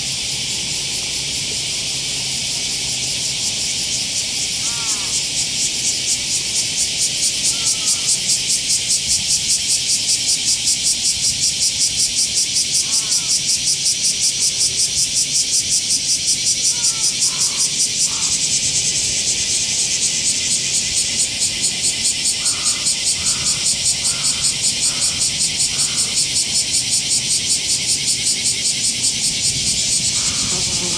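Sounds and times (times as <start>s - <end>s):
cicadas calling: 0.0s - 30.9s.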